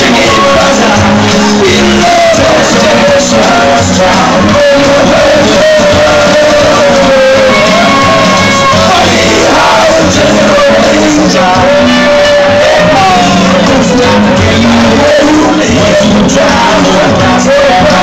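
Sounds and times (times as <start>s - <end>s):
crowd shouting along: 0.0s - 18.0s
loud country music: 0.0s - 18.0s
man singing: 0.0s - 18.0s.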